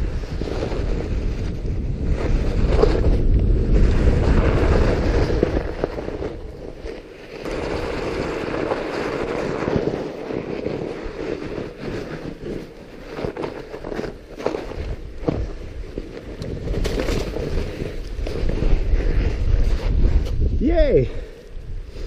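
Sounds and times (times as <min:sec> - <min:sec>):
bike tyres rolling over snow: 0:00.0 - 0:22.0
wind rumbling on microphone: 0:00.0 - 0:22.0.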